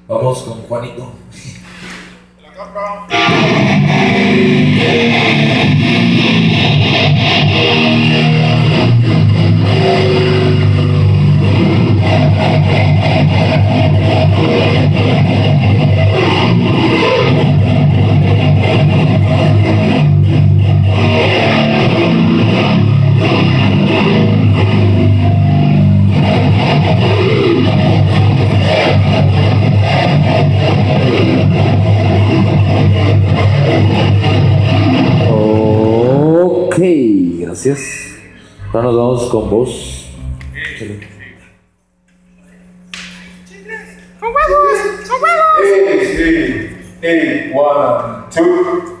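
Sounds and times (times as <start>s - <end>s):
electric guitar through amplifier: 3.0s - 49.0s.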